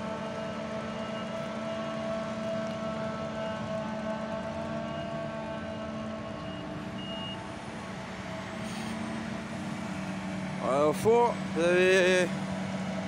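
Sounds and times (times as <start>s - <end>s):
harvester machinery drone with whine: 0.0s - 13.0s.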